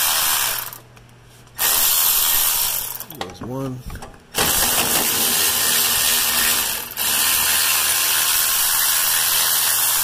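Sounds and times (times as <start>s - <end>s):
electric ratchet spinning: 0.0s - 0.9s, 1.6s - 3.1s, 4.4s - 10.0s.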